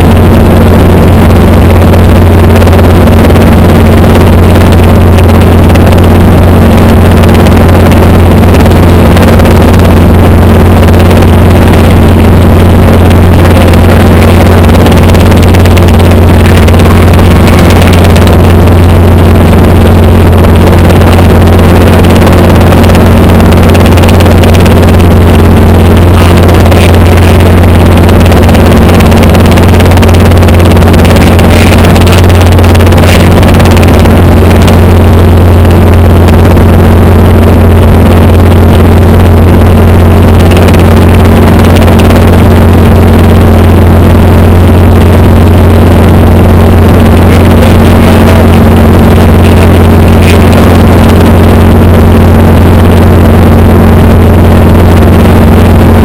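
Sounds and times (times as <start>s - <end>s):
helicopter engine and rotors drone: 0.0s - 56.0s.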